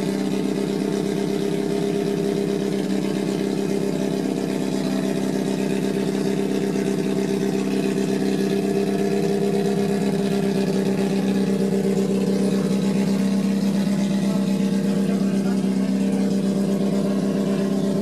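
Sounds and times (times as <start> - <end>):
racing engine idling: 0.0 - 18.0.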